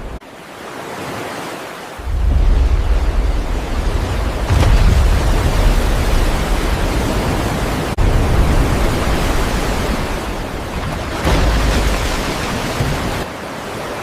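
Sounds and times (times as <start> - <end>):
sea water surging: 0.0 - 14.0.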